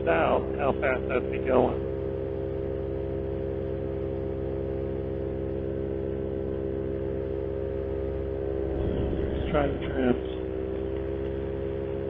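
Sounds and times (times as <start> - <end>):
paramotor engine and propeller drone: 0.0 - 12.0.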